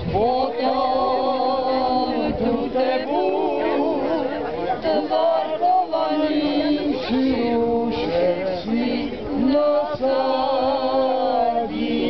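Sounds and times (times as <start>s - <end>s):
group singing together: 0.0s - 12.0s.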